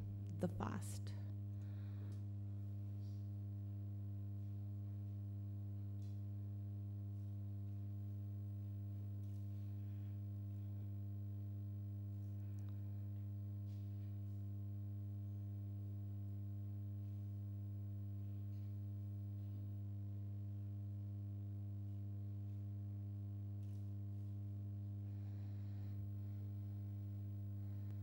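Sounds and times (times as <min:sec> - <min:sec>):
electrical mains hum: 0:00.0 - 0:28.0
faint small room noises: 0:00.0 - 0:28.0.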